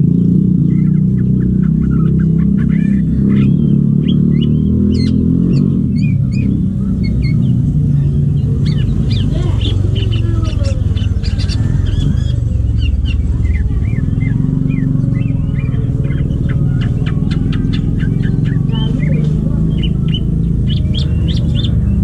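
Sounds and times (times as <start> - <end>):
engine rumble: 0.0 - 22.0
bird chirping and whistling: 0.7 - 22.0.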